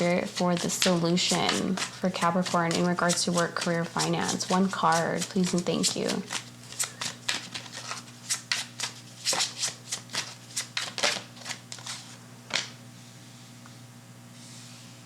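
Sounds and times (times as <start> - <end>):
cards being shuffled: 0.0 - 12.8.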